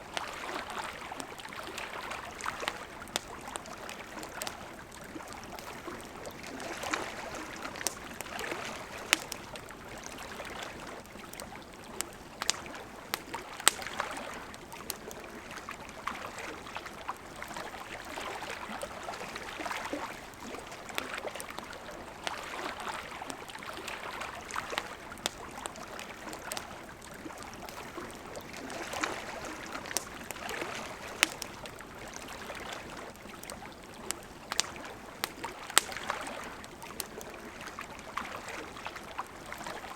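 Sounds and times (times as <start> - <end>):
campfire crackling and popping: 0.0 - 39.9
river water flowing: 0.0 - 39.9.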